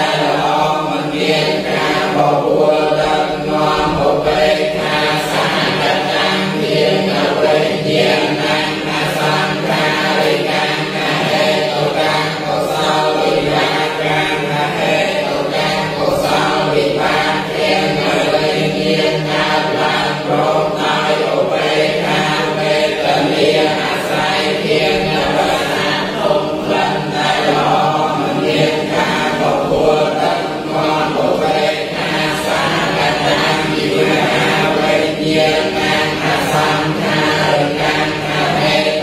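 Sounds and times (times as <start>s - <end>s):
monks chanting in unison: 0.0s - 39.0s.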